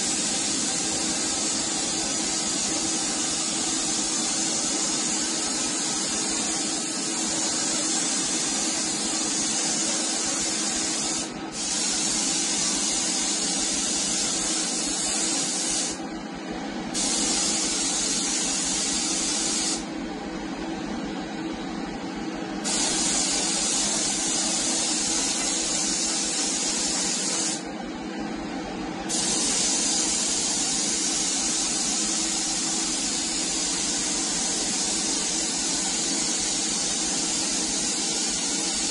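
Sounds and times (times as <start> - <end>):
spray gun hissing: 0.0 - 16.0, 17.0 - 19.9, 22.6 - 27.6, 29.1 - 38.9.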